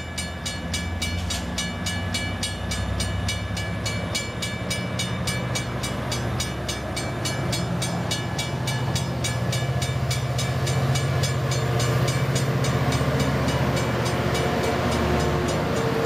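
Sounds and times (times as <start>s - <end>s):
crossing bell ringing: 0.0s - 16.0s
train engine drone: 0.0s - 16.0s.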